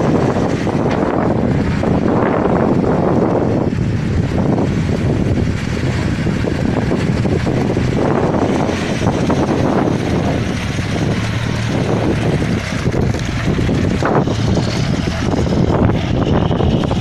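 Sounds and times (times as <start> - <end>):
off-road vehicle engine under load: 0.0 - 17.0
tyres churning mud: 0.0 - 17.0.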